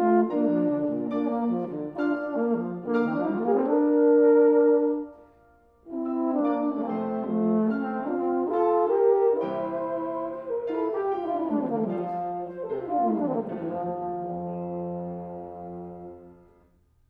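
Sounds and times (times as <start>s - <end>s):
euphoniums playing in harmony: 0.0s - 16.6s.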